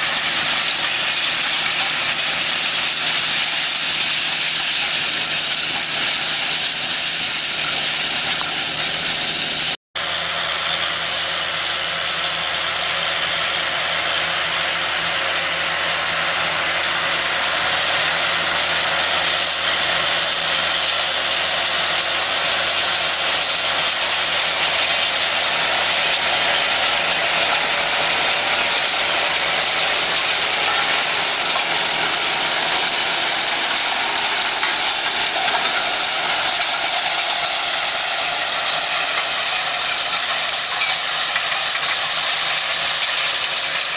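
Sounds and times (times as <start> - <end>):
tractor engine running under load: 0.0 - 43.9.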